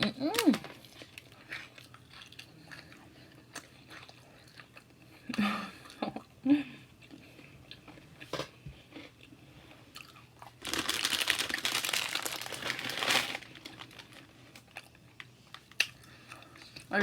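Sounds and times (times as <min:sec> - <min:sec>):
snack crunching and crinkling: 0:00.3 - 0:06.0, 0:07.0 - 0:16.9.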